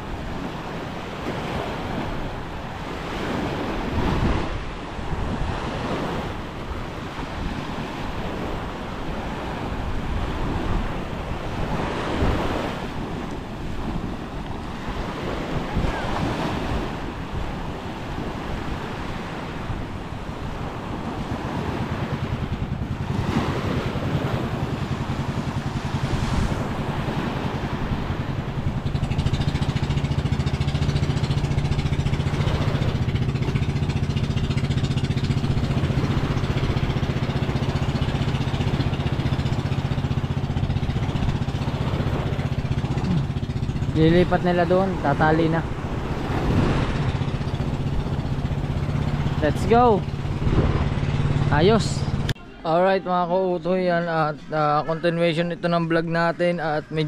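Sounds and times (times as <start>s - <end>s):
wind buffeting microphone: 0.0s - 52.4s
low engine hum: 0.0s - 57.0s
waves washing up beach: 0.0s - 57.0s.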